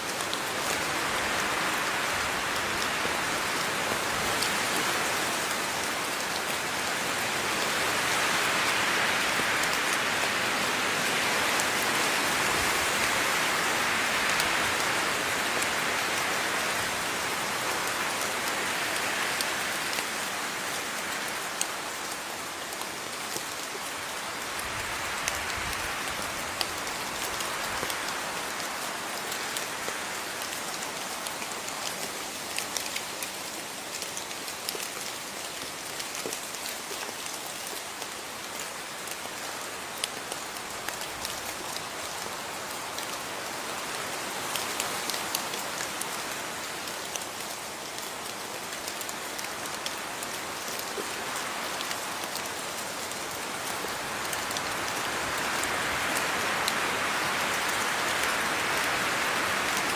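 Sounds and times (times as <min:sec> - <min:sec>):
rain pattering on a surface: 0:00.0 - 0:59.9.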